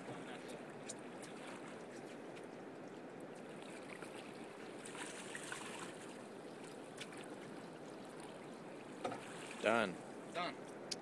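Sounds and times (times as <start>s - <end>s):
river water lapping: 0.0s - 10.8s.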